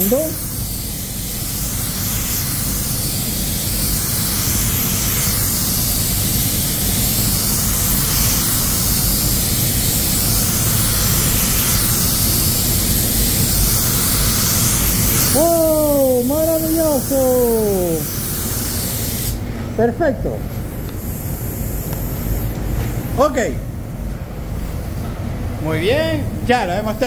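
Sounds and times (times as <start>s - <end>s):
spray gun hissing: 0.0s - 19.4s, 20.6s - 23.2s.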